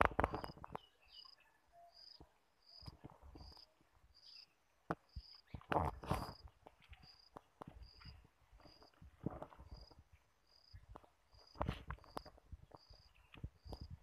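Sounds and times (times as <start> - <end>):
insect chirping: 0.2 - 14.0.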